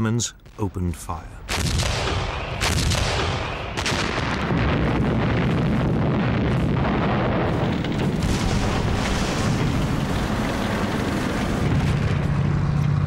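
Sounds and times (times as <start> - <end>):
heavy rumble of explosions: 0.4 - 13.0
artillery gun blasts: 1.4 - 12.7.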